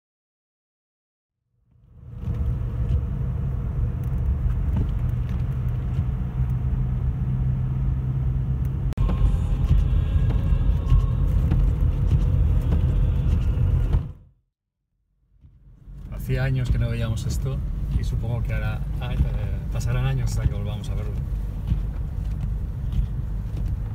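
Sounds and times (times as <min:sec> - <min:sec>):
car engine and tyres rumbling: 0:01.6 - 0:14.3, 0:15.2 - 0:23.9.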